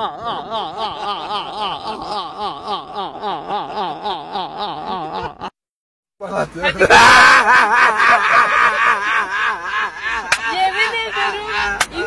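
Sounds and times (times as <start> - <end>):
man laughing hard: 0.0 - 5.6, 6.8 - 12.0.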